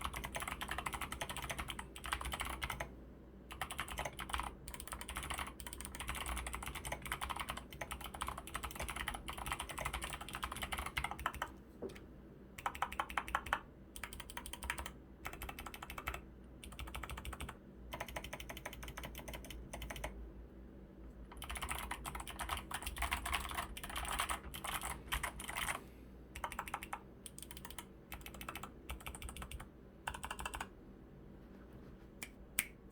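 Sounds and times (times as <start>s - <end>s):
mechanical keyboard typing clicks: 0.0s - 2.9s, 3.5s - 11.5s, 12.6s - 20.1s, 21.4s - 25.8s, 26.4s - 30.7s.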